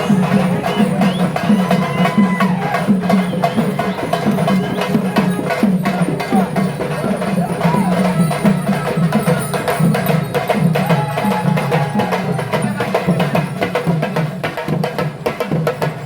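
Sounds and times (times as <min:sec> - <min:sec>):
percussion ensemble drumming: 0:00.0 - 0:16.0.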